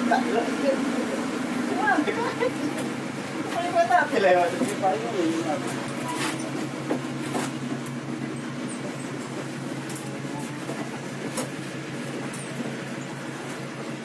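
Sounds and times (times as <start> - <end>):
diesel train hum: 0.0 - 14.0
rail and carriage clanks: 2.0 - 14.0.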